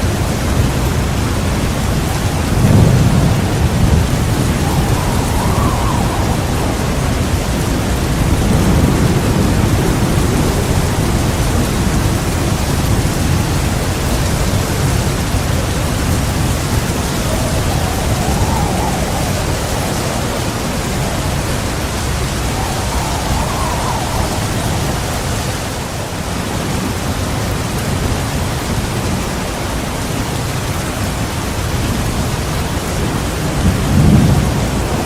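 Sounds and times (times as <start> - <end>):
heavy rain pouring: 0.0 - 35.0
rumble of thunder: 0.0 - 35.0.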